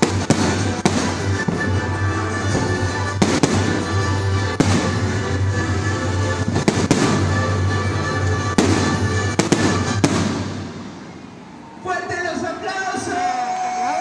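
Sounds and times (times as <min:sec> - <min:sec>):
fireworks bangs: 0:00.0 - 0:11.3
fireworks crackling: 0:00.0 - 0:11.3.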